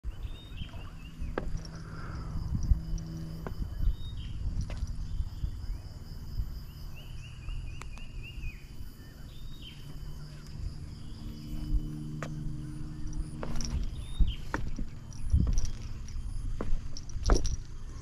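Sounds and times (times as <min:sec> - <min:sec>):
birds calling: 0:00.0 - 0:18.0
high insect hum: 0:00.0 - 0:18.0.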